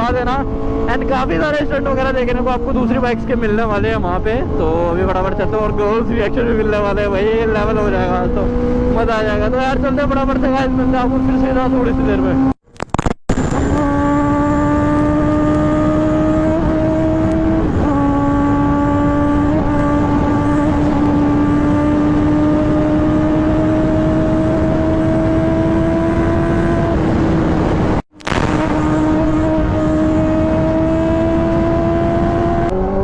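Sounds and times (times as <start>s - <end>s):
motorcycle engine at high revs: 0.0s - 12.6s, 13.3s - 33.0s
wind noise: 0.0s - 33.0s.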